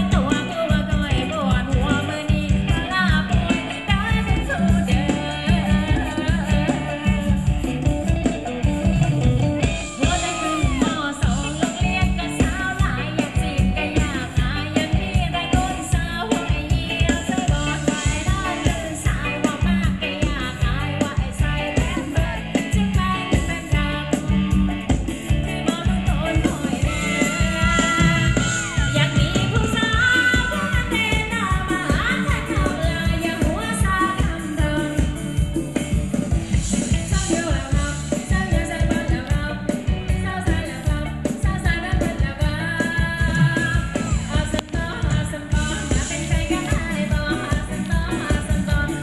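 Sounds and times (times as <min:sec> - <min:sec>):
person singing: 0:00.0 - 0:35.7, 0:37.0 - 0:49.0
driving drum beat: 0:00.0 - 0:49.0.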